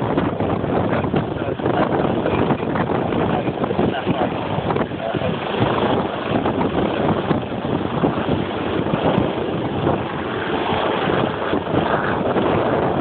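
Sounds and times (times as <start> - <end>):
breaking surf: 0.0 - 13.0
wind buffeting microphone: 0.0 - 13.0.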